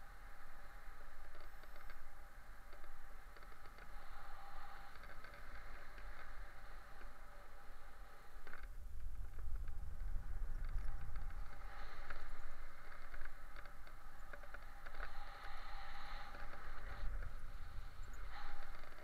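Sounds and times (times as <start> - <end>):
light ticks and rustles: 0.0 - 19.0.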